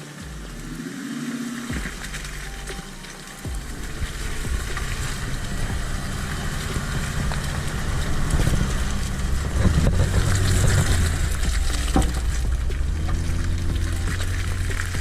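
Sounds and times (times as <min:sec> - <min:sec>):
engine running under load: 0:00.0 - 0:15.0
knocks and rattles: 0:01.7 - 0:15.0.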